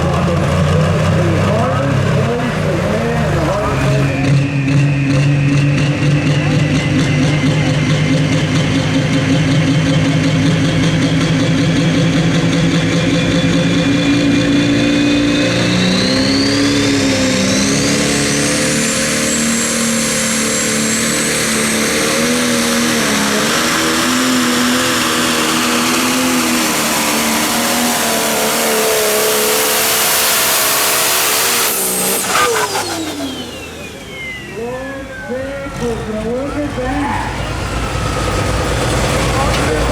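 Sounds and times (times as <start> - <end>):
diesel engine at full power: 0.0 - 39.9
turbo whine: 1.5 - 39.9.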